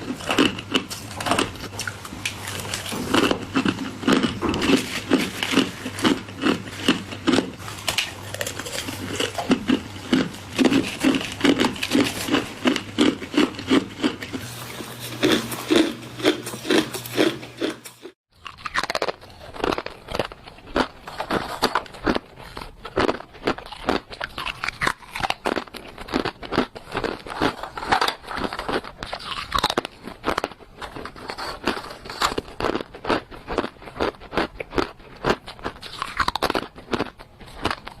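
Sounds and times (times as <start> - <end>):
ice being chewed: 0.0 - 38.0.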